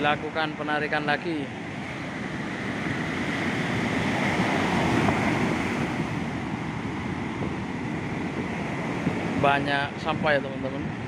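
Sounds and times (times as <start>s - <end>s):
surf washing up a beach: 0.0s - 11.0s.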